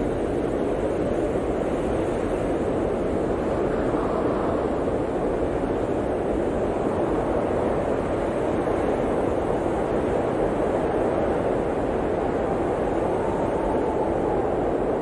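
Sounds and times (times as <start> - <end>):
blizzard wind rushing: 0.0 - 15.0.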